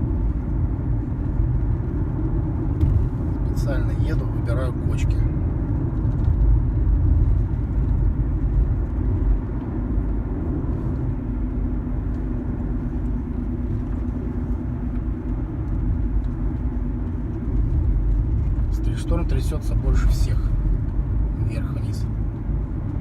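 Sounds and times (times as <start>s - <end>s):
tyre and suspension rumble: 0.0s - 23.0s.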